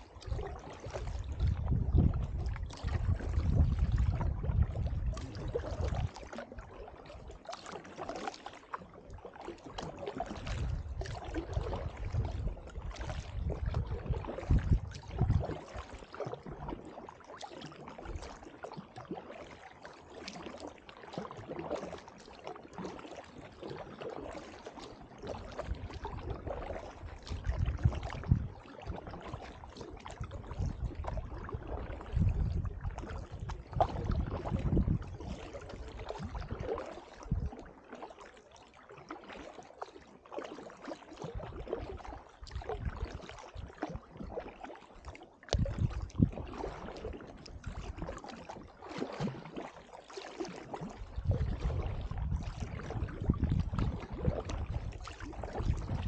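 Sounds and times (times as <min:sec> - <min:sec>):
paddles splashing in water: 0:00.0 - 0:56.0.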